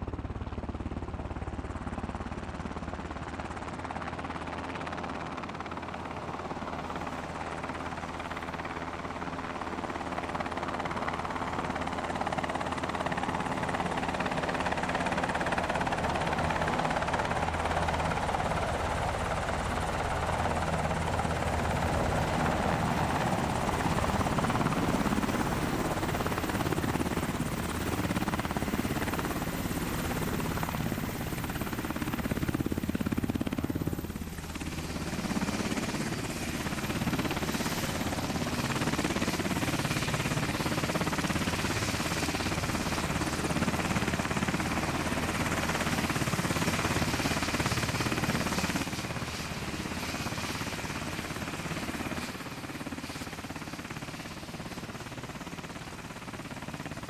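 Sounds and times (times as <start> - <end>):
helicopter rotor and turbine engines: 0.0 - 57.0.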